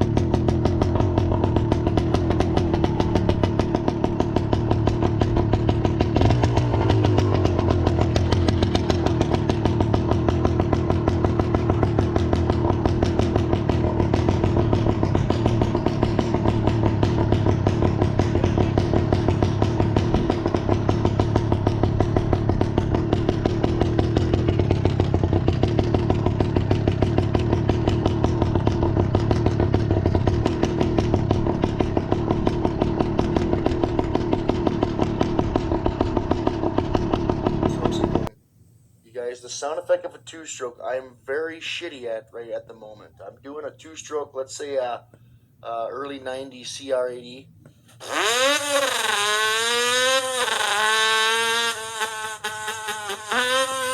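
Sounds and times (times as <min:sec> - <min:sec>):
small two-stroke engine buzzing: 0:00.0 - 0:38.3, 0:48.0 - 0:53.9.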